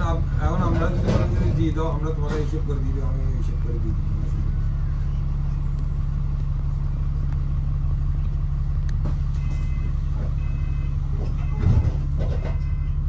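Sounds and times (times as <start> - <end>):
bus engine low rumble: 0.0 - 13.0.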